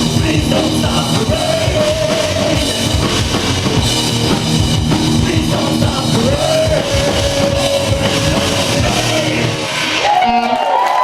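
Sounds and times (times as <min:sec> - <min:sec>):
loud rock band playing: 0:00.0 - 0:11.0.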